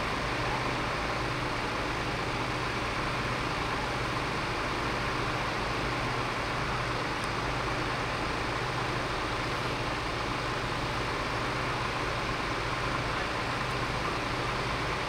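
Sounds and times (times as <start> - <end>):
fire engine idling: 0.0 - 15.0.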